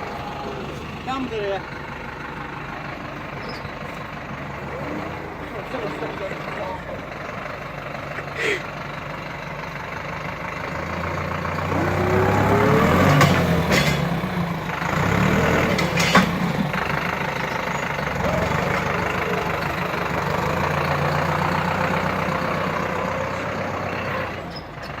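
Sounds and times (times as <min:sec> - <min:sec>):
tractor diesel engine revving: 0:00.0 - 0:25.0.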